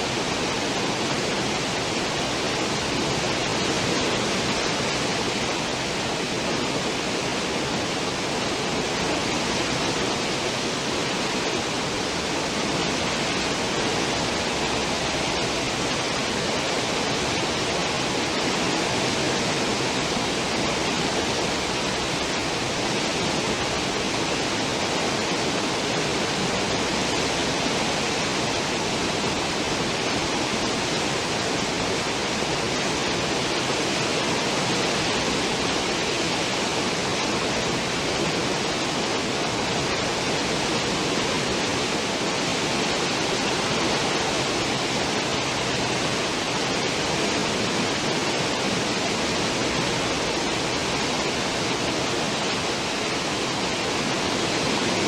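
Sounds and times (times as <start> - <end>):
ship wake water rushing: 0.0 - 55.0.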